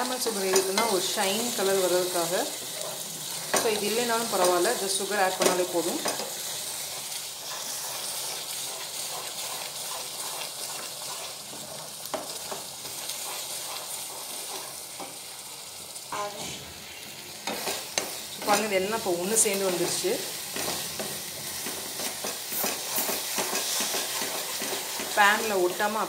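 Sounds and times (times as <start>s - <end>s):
halwa sizzling in a pan: 0.0s - 26.0s
spatula scraping a pan: 0.2s - 15.2s, 16.8s - 25.5s.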